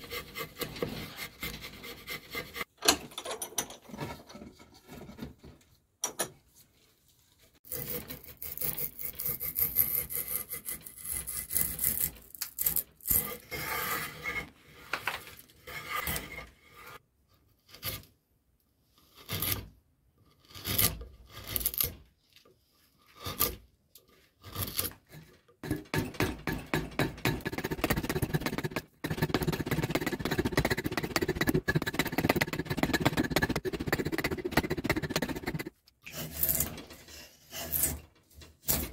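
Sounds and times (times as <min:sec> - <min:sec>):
knife scraping wood: 0:00.0 - 0:02.7, 0:07.6 - 0:17.0, 0:18.9 - 0:38.9.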